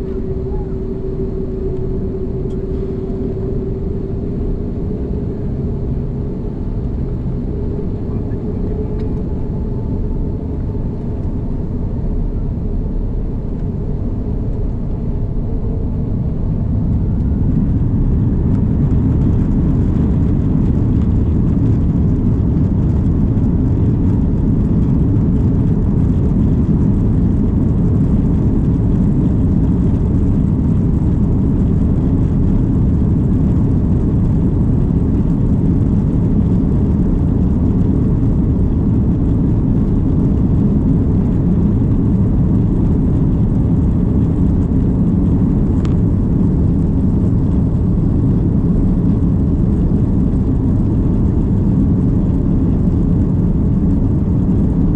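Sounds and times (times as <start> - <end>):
airliner rumble: 0.0 - 54.9.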